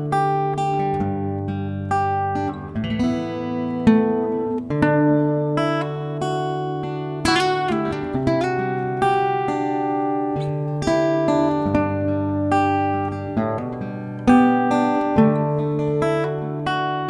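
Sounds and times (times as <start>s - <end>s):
acoustic guitar plucked notes: 0.0s - 17.0s.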